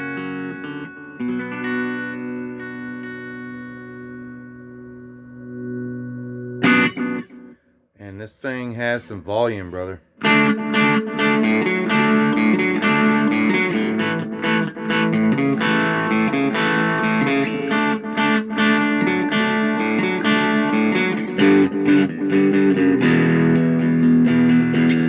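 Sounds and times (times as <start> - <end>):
electric guitar strumming chords: 0.0 - 7.7, 10.2 - 25.0.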